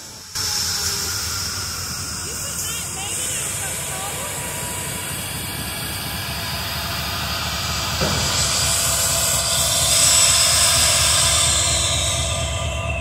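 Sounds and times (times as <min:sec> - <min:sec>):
diesel locomotive rumble: 0:00.0 - 0:13.0.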